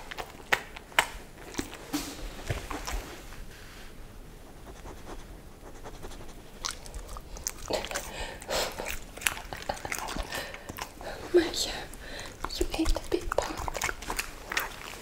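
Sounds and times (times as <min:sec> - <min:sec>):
dog chewing with mouth clicks: 0:00.0 - 0:03.3, 0:04.6 - 0:15.0
dog sniffing: 0:01.5 - 0:15.0.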